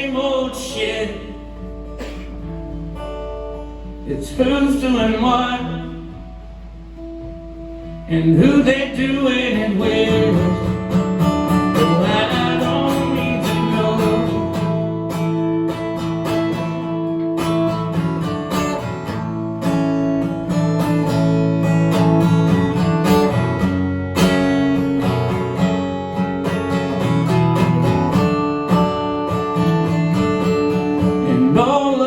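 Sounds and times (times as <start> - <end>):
strummed guitar chords: 0.0 - 32.0.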